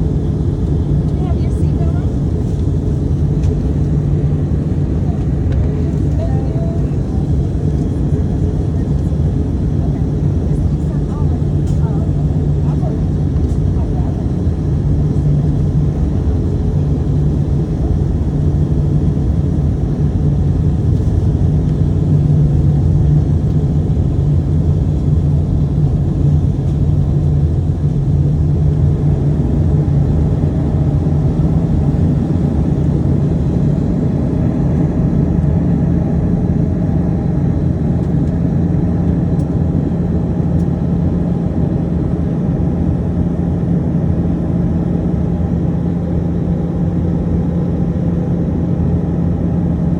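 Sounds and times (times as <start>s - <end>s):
airflow rush and engine drone: 0.0s - 49.9s
strong low hum: 0.0s - 49.9s.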